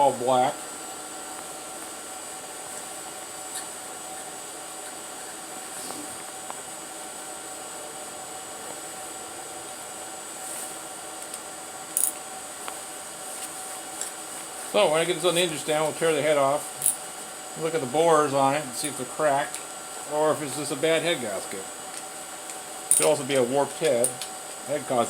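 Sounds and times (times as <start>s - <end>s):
mechanical hum with high whine: 0.0s - 25.0s.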